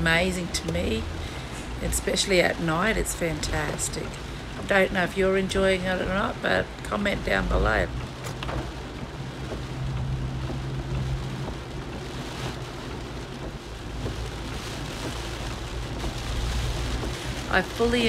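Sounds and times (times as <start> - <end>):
car hum: 0.0 - 18.0
rain on a car: 0.0 - 18.0
tyres on wet road: 0.0 - 18.0.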